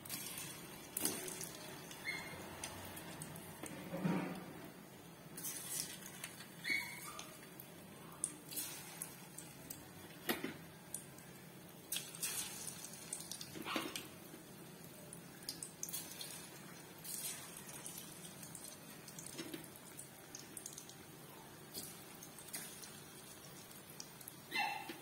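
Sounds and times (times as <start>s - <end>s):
oil sizzling with pops: 0.0s - 25.0s.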